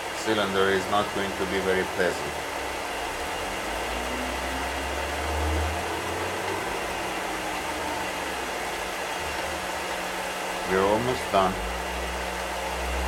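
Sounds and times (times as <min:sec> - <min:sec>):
lathe tool cutting wax: 0:00.0 - 0:13.0
metal lathe motor humming: 0:00.0 - 0:13.0.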